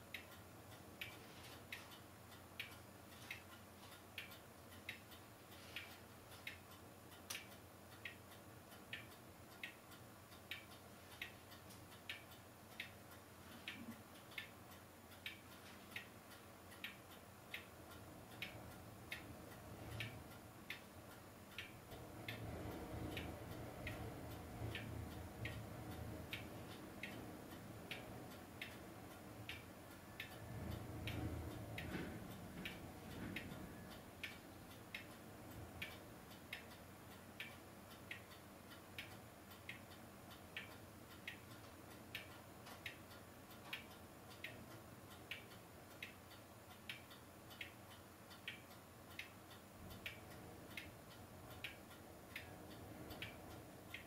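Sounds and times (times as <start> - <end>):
faint steady ticking: 0.0 - 54.0.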